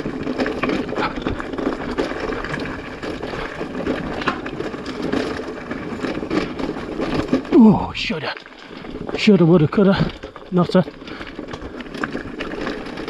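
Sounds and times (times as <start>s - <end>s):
bike rattling: 0.0s - 13.0s
bike tyres over stones: 0.0s - 13.0s.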